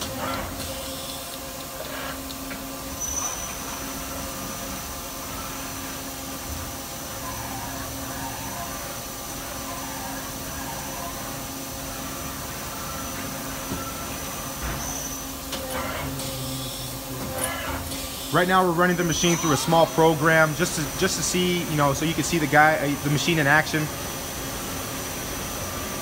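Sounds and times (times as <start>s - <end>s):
machine hum with high whine: 0.0s - 26.0s.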